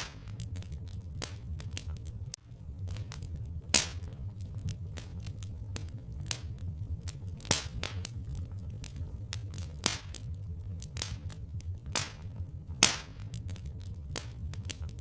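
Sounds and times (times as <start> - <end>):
log fire crackling: 0.0 - 15.0
low steady rumble: 0.0 - 15.0.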